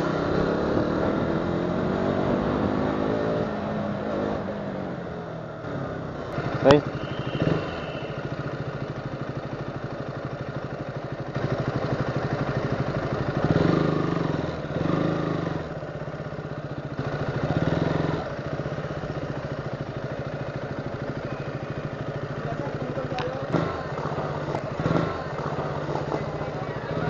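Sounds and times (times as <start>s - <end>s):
motorcycle engine idling: 3.5s - 27.0s.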